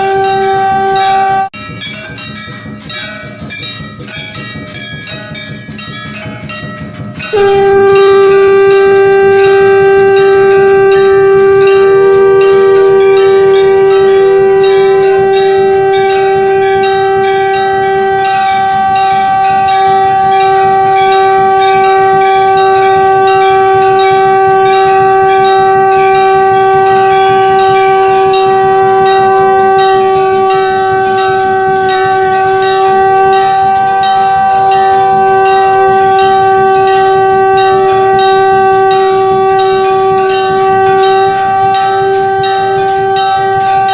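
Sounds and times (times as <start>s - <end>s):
conch shell blown: 0.0s - 1.6s, 7.3s - 43.9s
temple bells struck: 0.0s - 43.9s.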